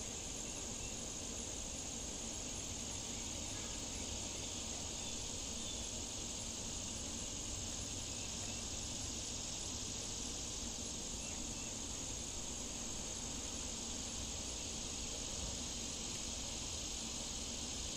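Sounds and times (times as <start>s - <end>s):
chorus of insects: 0.0s - 17.9s.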